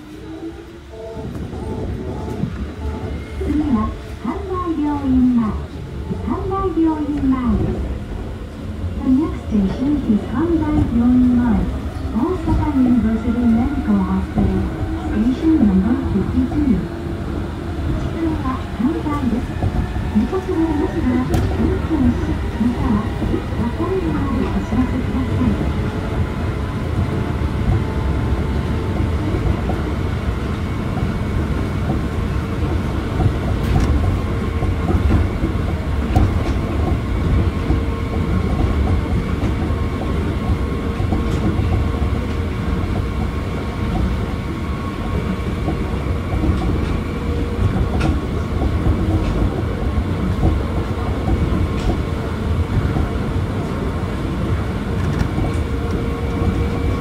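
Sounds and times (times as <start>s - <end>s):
monorail car rumbling: 0.0s - 57.0s.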